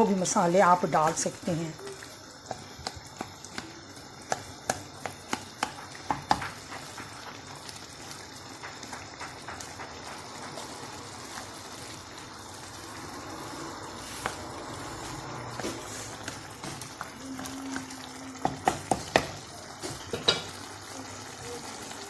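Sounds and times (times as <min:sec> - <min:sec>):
food sizzling in a pan: 0:00.0 - 0:22.0
sharp pops from frying: 0:00.0 - 0:22.0.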